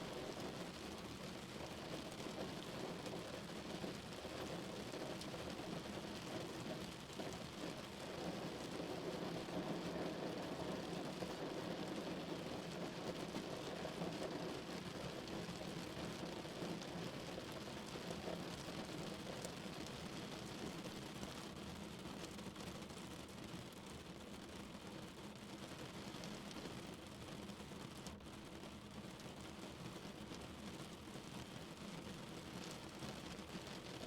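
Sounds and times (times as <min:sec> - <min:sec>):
rain falling on car body: 0:00.1 - 0:30.3.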